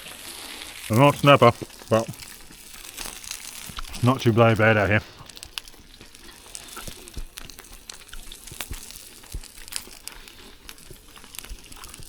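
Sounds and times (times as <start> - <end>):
fat crackling and popping: 0.0 - 12.0
sausages sizzling on a hot plate: 0.0 - 12.0.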